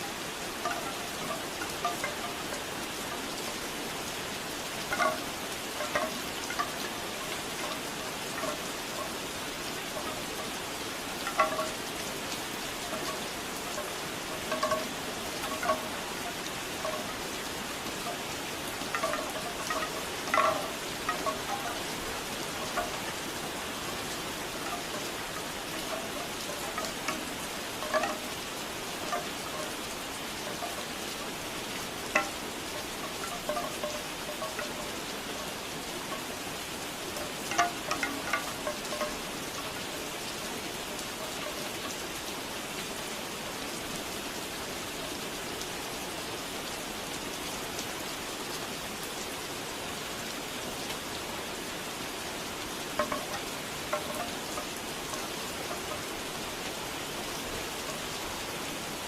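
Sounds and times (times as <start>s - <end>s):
bamboo wind chimes clacking: 0.0s - 59.0s
steady rain: 0.0s - 59.0s.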